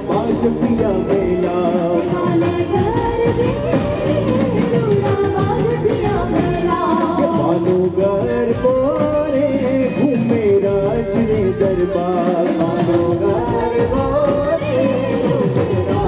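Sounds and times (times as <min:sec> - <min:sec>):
live band playing: 0:00.0 - 0:16.0
person singing: 0:00.0 - 0:16.0.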